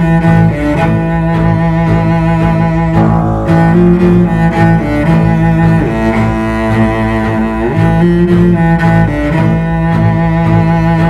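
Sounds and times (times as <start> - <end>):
low bowed strings music: 0.0 - 11.0.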